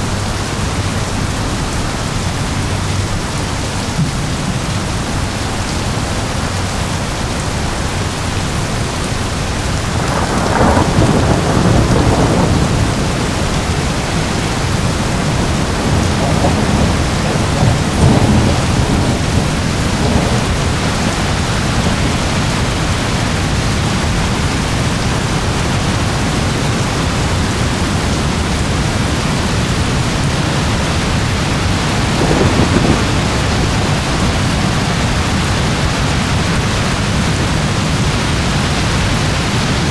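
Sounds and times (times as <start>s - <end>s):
heavy rain: 0.0s - 39.9s
rolling thunder: 0.1s - 39.9s.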